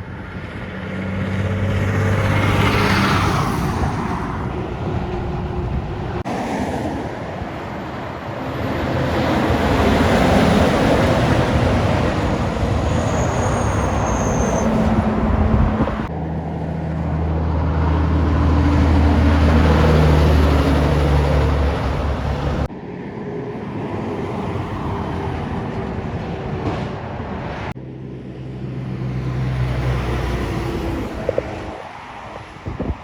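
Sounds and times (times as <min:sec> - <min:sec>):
heavy trucks driving past: 0:00.0 - 0:33.0
tyre and road noise: 0:00.0 - 0:33.0.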